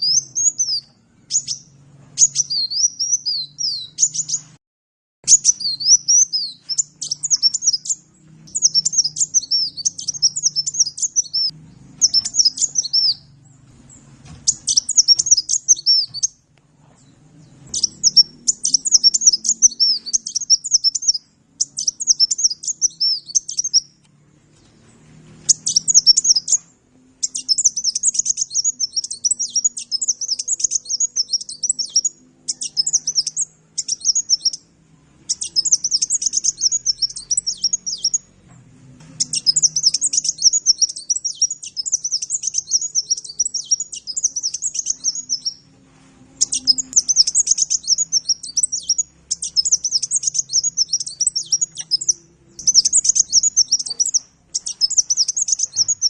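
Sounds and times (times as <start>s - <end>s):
bird twittering song: 0.0s - 4.6s, 5.2s - 38.5s, 39.2s - 45.7s, 46.4s - 56.0s
faint low hum: 5.3s - 56.0s.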